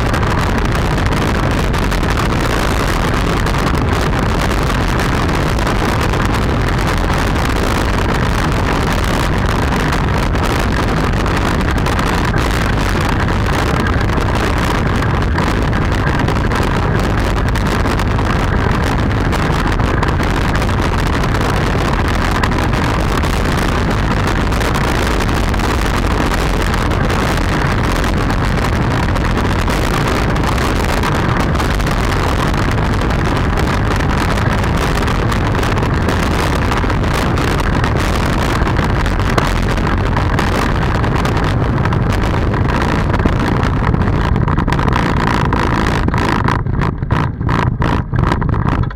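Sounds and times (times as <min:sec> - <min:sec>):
hard wheels rolling on asphalt: 0:00.0 - 0:48.9
wind rushing over microphone: 0:00.0 - 0:48.9.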